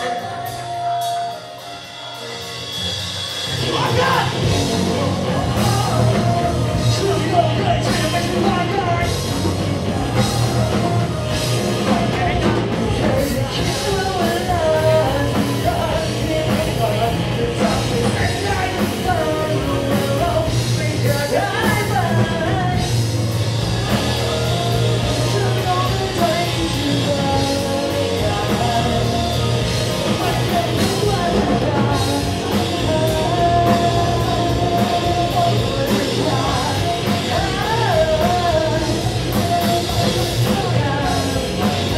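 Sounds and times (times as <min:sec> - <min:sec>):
person singing: 0:00.0 - 0:41.9
rock band playing live: 0:00.0 - 0:41.9.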